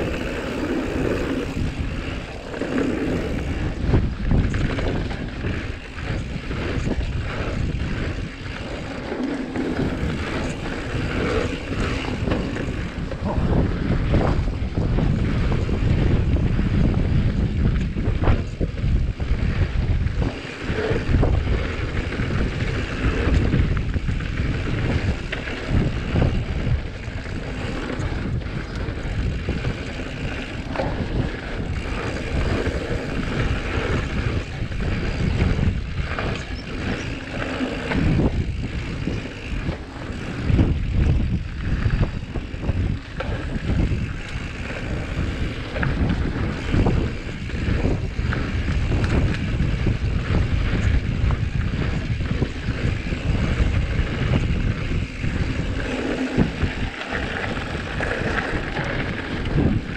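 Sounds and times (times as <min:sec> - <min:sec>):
bike knocking and rattling: 0:00.0 - 0:59.9
wind buffeting microphone: 0:00.0 - 0:59.9.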